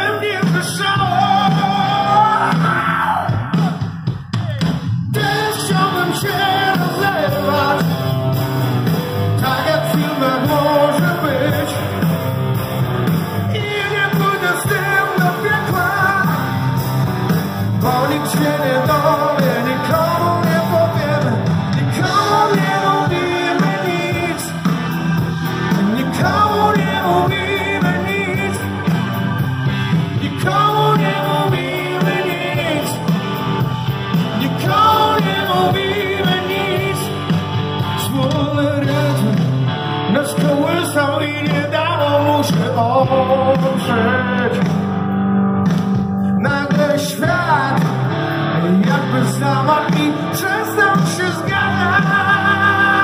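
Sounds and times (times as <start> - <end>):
man singing: 0.0 - 12.4, 13.4 - 16.8, 17.6 - 44.9, 46.2 - 53.0
electric guitar: 0.0 - 53.0
live rock band playing: 0.0 - 53.0.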